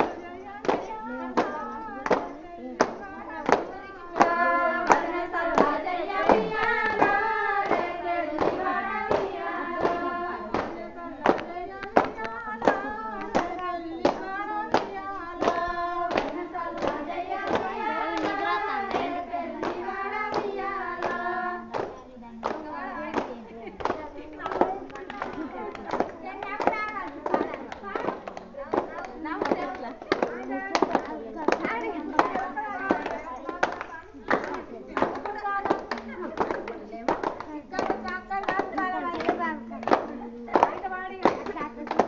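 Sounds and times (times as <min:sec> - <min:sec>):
hand clapping: 0:00.0 - 0:42.0
women singing folk song: 0:00.0 - 0:42.0.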